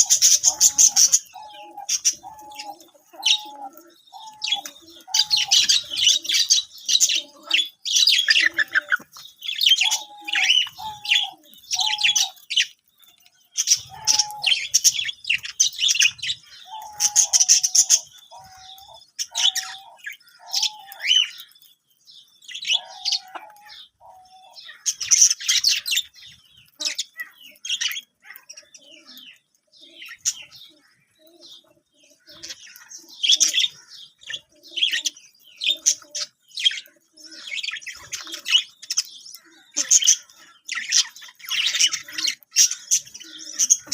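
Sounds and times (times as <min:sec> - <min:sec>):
budgerigars chirping and warbling: 0:00.0 - 0:43.9.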